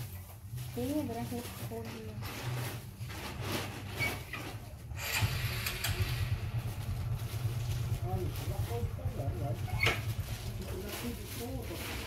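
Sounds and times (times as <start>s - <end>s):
rustling and rubbing: 0.0s - 5.0s, 6.5s - 12.0s
steady low hum: 0.0s - 12.0s.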